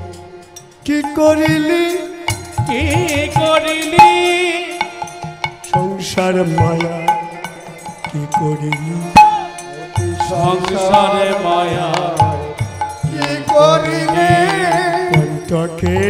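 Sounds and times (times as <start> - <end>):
ornamented melody: 0.0 - 16.0.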